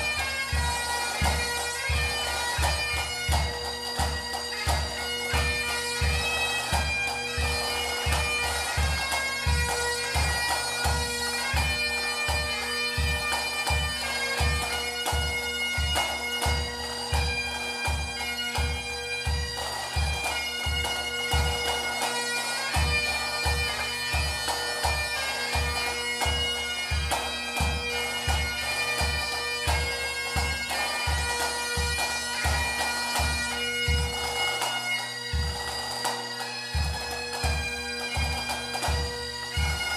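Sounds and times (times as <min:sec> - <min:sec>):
bagpipe melody with drone: 0:00.0 - 0:39.9.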